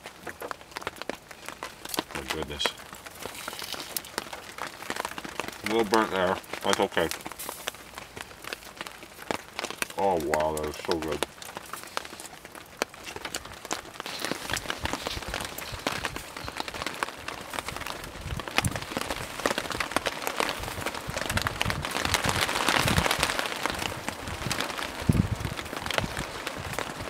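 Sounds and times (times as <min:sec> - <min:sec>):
raindrops pattering on a tarp: 0:00.0 - 0:27.0
steady rain hiss: 0:00.0 - 0:27.0.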